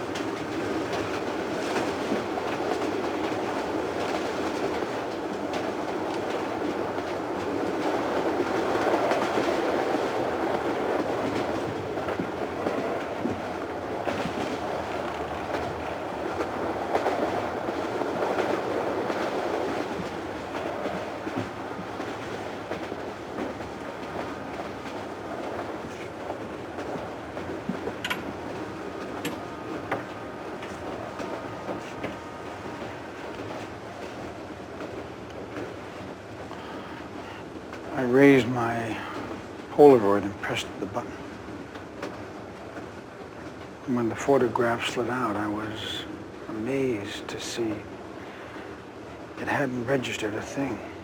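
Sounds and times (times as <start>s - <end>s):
train rumbling on rails: 0.0s - 51.0s.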